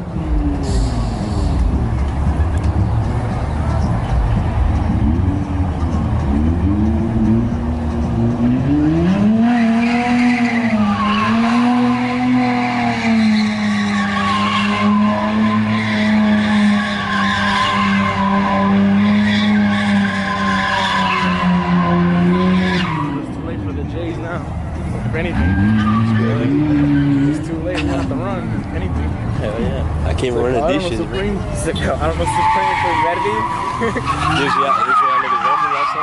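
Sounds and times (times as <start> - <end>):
car engine at high revs: 0.0 - 36.0
tire squeal: 0.4 - 3.1, 4.7 - 23.7, 25.1 - 28.6, 31.4 - 36.0.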